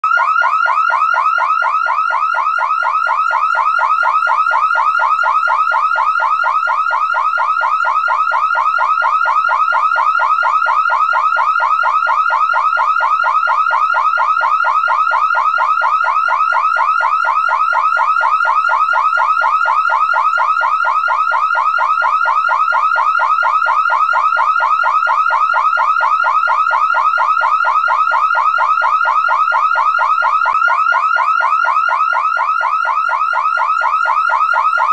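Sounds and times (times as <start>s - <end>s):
car alarm siren warbling: 0.0s - 34.9s.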